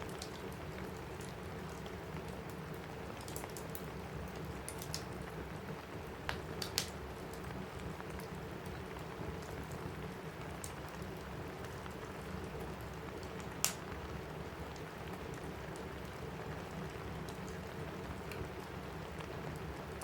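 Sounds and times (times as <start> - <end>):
rain falling on a roof: 0.0 - 20.0
wood fire crackling: 0.0 - 20.0.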